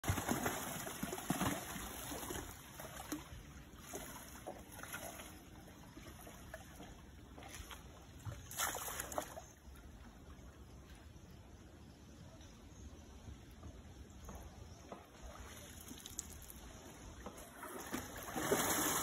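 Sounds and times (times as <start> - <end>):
water splashing and trickling: 0.0 - 11.8, 14.0 - 19.0.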